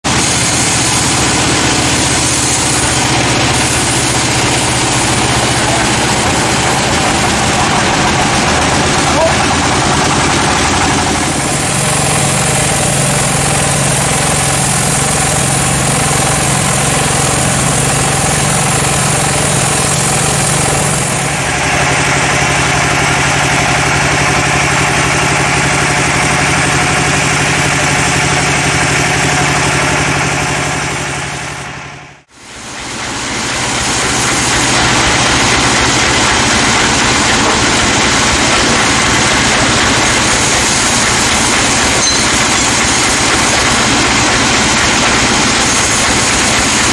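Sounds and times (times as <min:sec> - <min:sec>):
band saw cutting log: 0:00.0 - 0:46.9.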